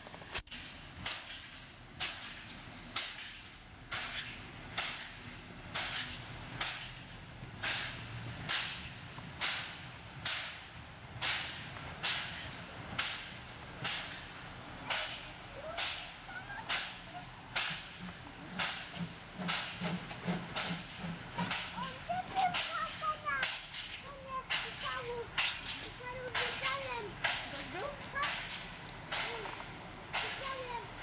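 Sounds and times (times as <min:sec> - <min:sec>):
steam locomotive chuffing: 0:00.0 - 0:31.0.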